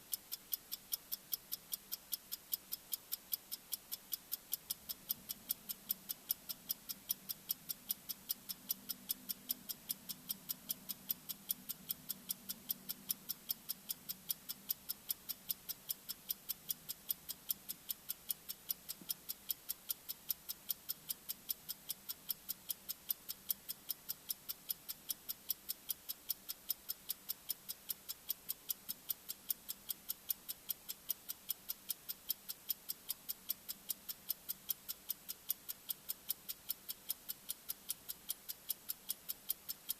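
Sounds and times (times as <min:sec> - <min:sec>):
timer ticking clicks: 0:00.0 - 0:39.9.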